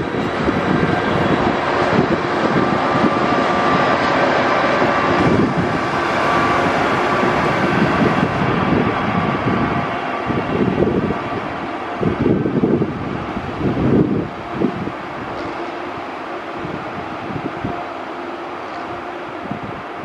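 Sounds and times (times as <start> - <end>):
passenger train passing: 0.0 - 20.0.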